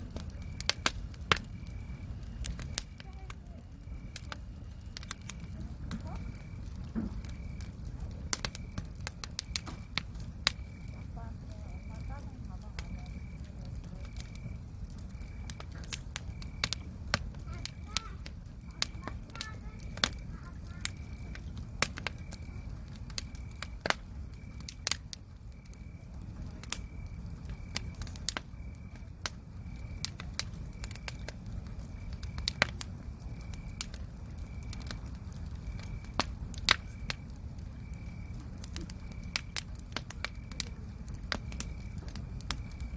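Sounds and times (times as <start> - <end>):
campfire crackling and popping: 0.0 - 42.9
cricket chirping: 0.0 - 42.9.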